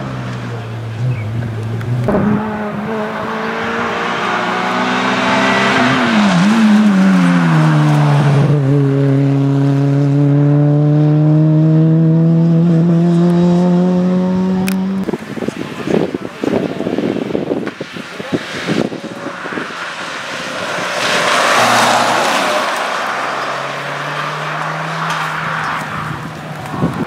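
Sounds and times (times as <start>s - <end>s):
car engine revving hard: 1.0s - 15.2s, 18.3s - 26.6s.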